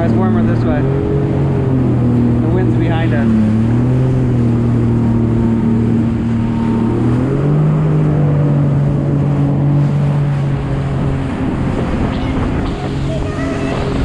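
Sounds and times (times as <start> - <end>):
jet ski engine running: 0.0 - 14.0
water rushing: 0.0 - 14.0
wind: 0.0 - 14.0.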